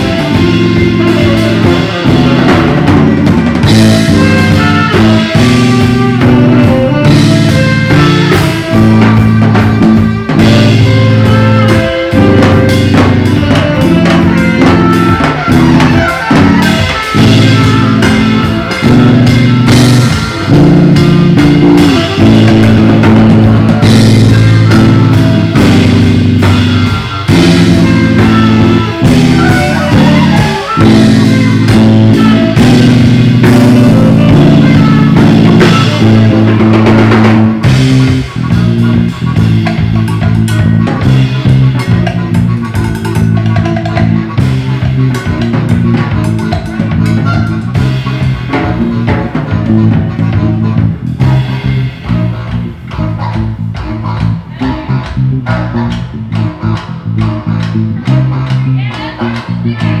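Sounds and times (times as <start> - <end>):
drum kit: 0.0 - 60.0
electric bass: 0.0 - 60.0
live band music: 0.0 - 60.0
saxophone section: 0.0 - 60.0.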